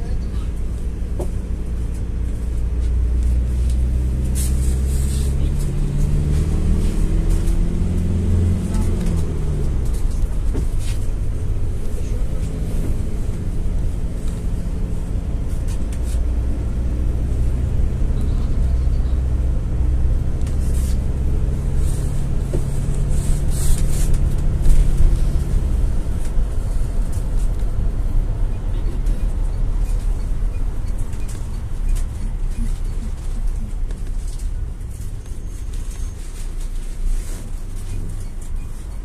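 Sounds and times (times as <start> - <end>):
minibus engine hum: 0.0 - 39.0
road noise: 0.0 - 39.0.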